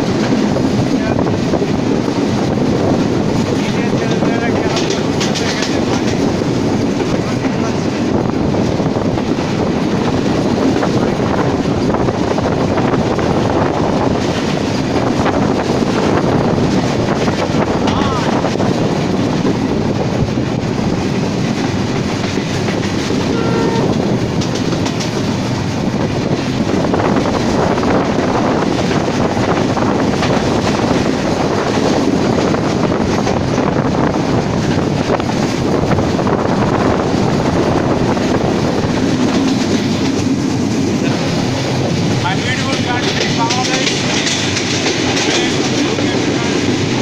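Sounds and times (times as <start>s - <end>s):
wheels clattering over rail joints: 0.0s - 8.4s, 10.2s - 47.0s
train rumbling: 0.0s - 47.0s.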